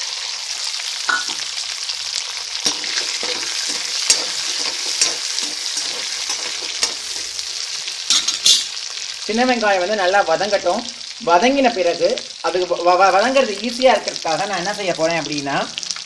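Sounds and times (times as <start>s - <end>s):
shallots sizzling in oil: 0.0s - 16.0s.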